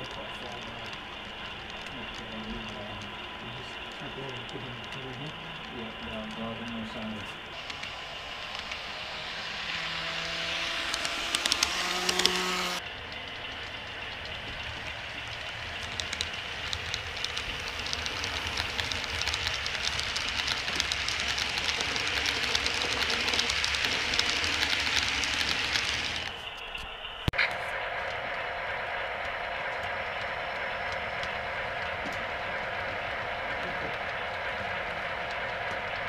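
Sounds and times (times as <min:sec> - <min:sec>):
steady rumble: 0:00.0 - 0:36.0
wheels clicking over rail joints: 0:00.0 - 0:36.0.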